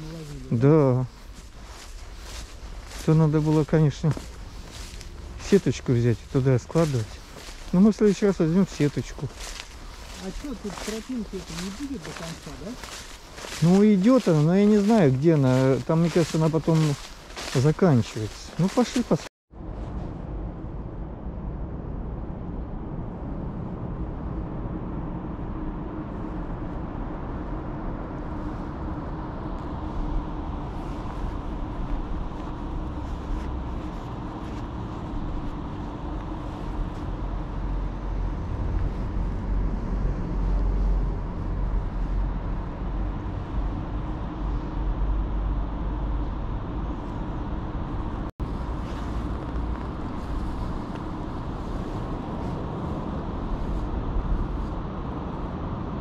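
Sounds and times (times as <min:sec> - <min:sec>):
constant hum: 0:00.0 - 0:56.0
vehicle rumble: 0:00.0 - 0:56.0.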